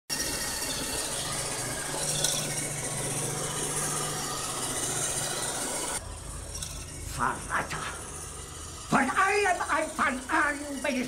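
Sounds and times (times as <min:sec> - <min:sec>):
robot vacuum whirring: 0:00.1 - 0:11.0.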